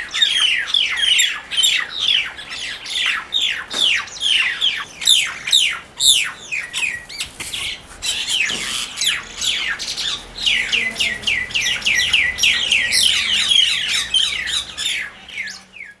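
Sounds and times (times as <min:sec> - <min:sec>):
birds squawking harshly: 0:00.0 - 0:16.0.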